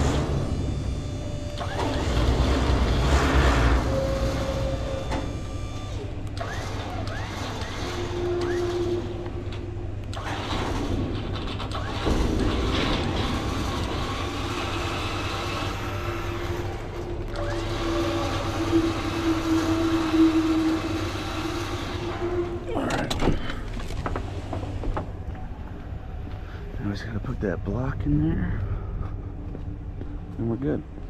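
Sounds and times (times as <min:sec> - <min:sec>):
steady whine: 0:00.0 - 0:31.0.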